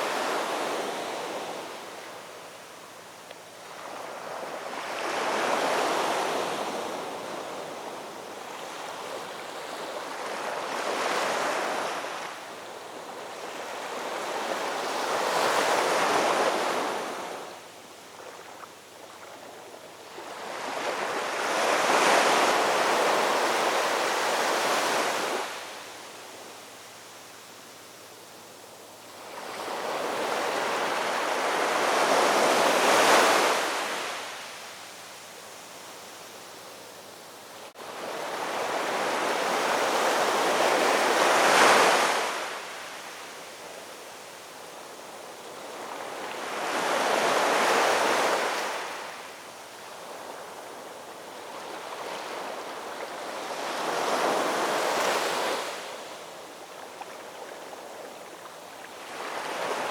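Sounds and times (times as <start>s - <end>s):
ocean waves breaking on shore: 0.0s - 2.8s, 3.6s - 27.7s, 28.5s - 59.9s.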